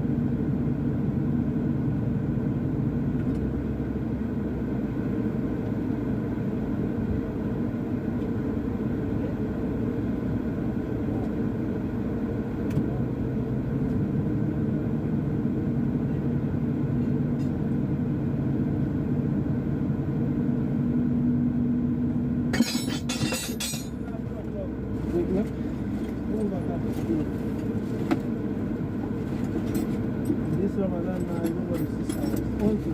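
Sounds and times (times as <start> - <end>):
diesel engine low rumble: 0.0 - 32.9.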